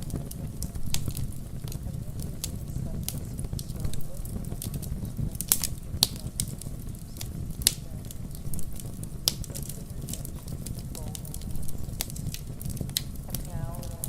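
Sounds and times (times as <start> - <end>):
fireplace crackling and popping: 0.0 - 14.0
steady low rumble: 0.0 - 14.0.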